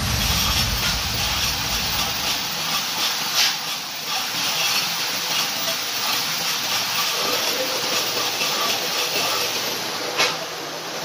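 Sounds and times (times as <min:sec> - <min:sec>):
welding arc hissing: 0:00.0 - 0:11.0.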